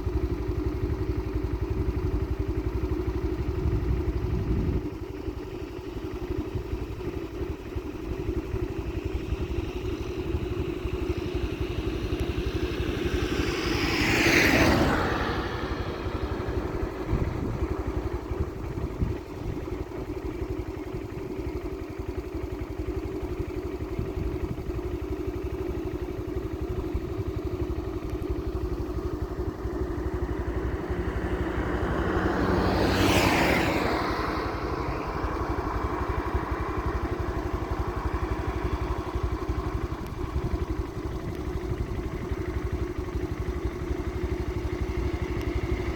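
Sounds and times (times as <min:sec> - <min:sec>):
road noise: 0:00.0 - 0:45.9
vehicle engine running: 0:00.0 - 0:45.9.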